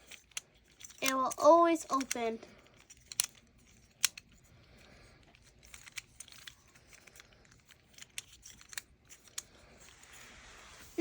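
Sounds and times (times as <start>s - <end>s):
plastic fidget toys clicking: 0.0s - 9.6s.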